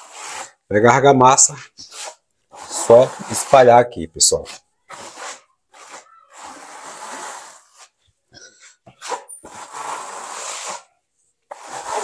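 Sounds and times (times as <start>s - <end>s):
trowel scraping wet mortar: 0.0s - 0.6s, 1.8s - 8.0s, 8.9s - 12.0s.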